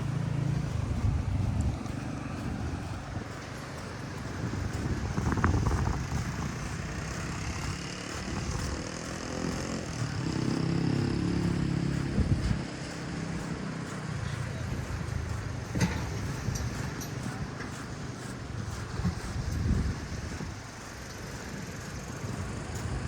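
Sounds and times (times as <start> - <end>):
small engine passing: 0.0 - 23.0.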